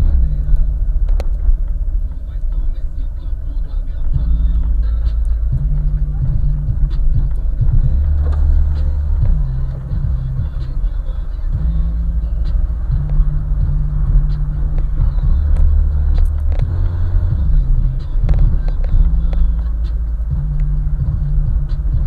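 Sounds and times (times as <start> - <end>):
hip-hop with heavy bass: 0.0 - 22.0.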